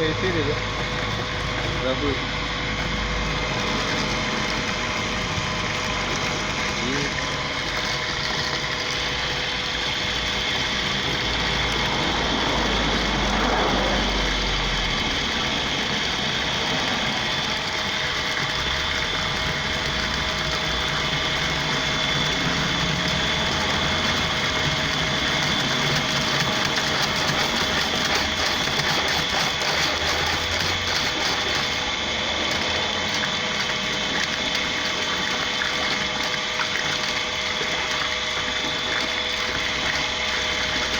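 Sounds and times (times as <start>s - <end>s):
motor running with high whine: 0.0s - 40.9s.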